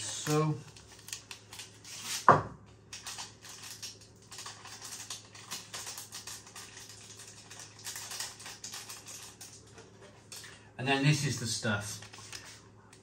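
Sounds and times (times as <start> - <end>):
plastic sachet crinkling: 0.0 - 2.2, 2.9 - 10.5, 11.2 - 12.6
faint steady hum: 0.0 - 13.0.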